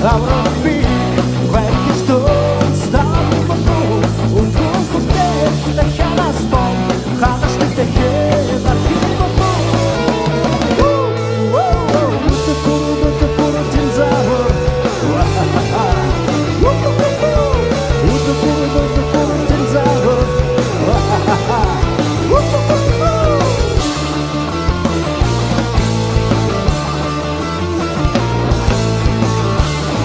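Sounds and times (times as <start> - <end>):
bass guitar: 0.0 - 30.0
drums: 0.0 - 30.0
electric guitar lead: 0.0 - 30.0.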